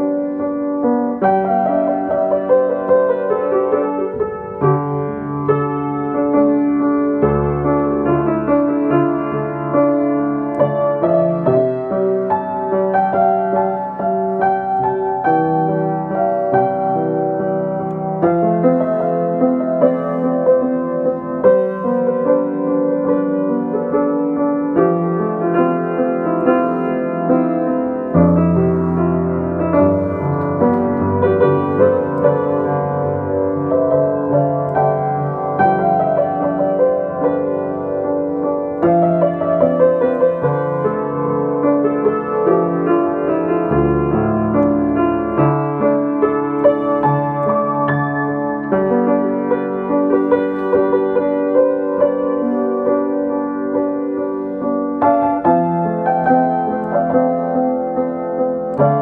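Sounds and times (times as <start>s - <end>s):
solo piano piece: 0.0s - 59.0s.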